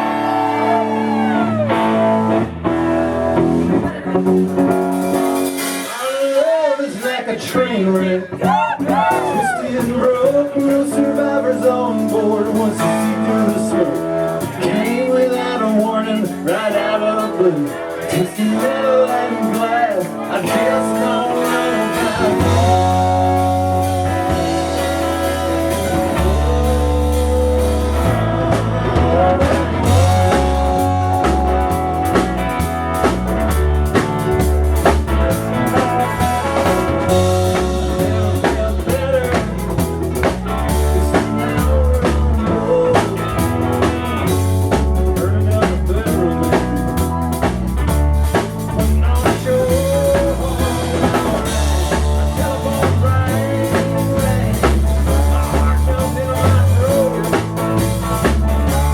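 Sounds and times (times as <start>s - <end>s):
rock band playing blues-rock: 0.0s - 58.9s.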